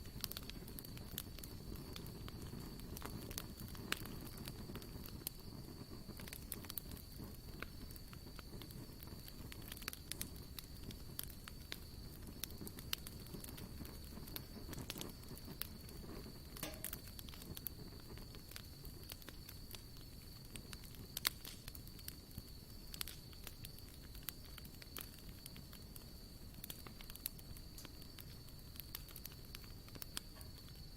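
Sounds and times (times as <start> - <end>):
campfire crackling and popping: 0.0 - 30.9.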